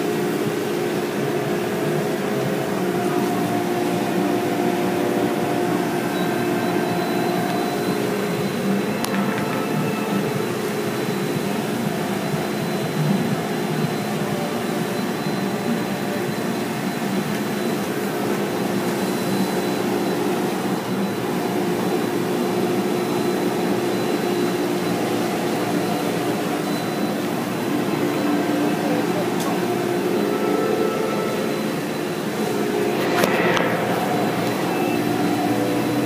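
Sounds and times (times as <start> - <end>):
car wash machinery hum: 0.0 - 36.0.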